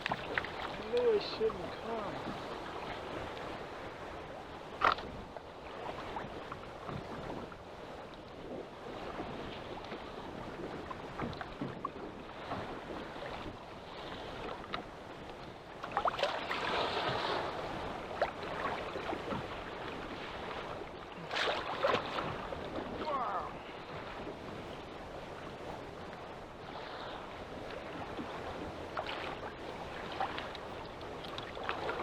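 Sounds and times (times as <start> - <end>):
water slapping against kayak hull: 0.0 - 7.6, 8.8 - 32.0
wind on microphone: 0.0 - 32.0.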